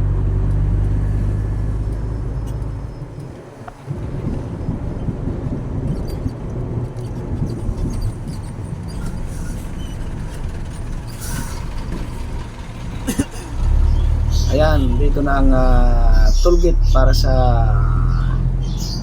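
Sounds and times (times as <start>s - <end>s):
road noise: 0.0s - 19.0s
truck engine running: 0.0s - 19.0s.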